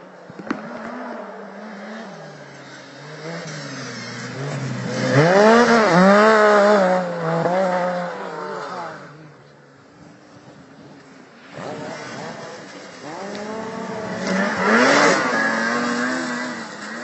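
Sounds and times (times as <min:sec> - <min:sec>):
snowmobile engine passing by: 0:01.1 - 0:09.3, 0:11.5 - 0:17.0.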